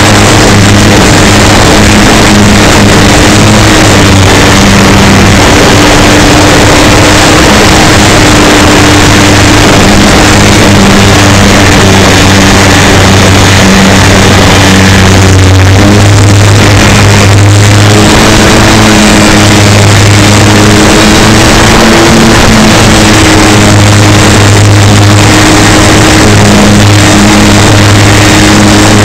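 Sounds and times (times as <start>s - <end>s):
electric motor and propeller humming: 0.0s - 29.0s
wind rush on microphone: 0.0s - 29.0s.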